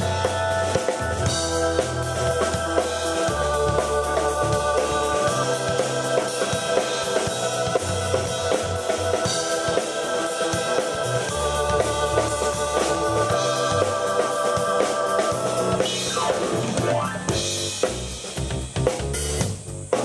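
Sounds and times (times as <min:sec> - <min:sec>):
bass notes: 0:00.0 - 0:09.4, 0:11.0 - 0:14.2, 0:15.3 - 0:20.0
keyboard chords: 0:00.0 - 0:17.9
rock drum beat: 0:00.0 - 0:20.0.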